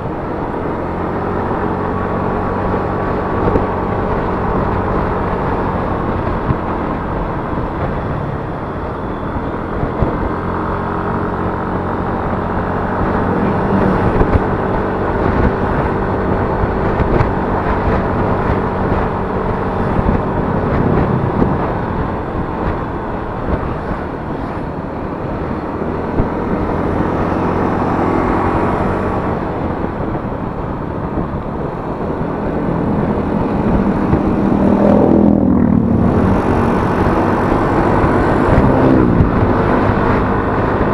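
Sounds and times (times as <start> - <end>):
road and wind noise: 0.0 - 40.9
scooter engine running: 0.0 - 40.9.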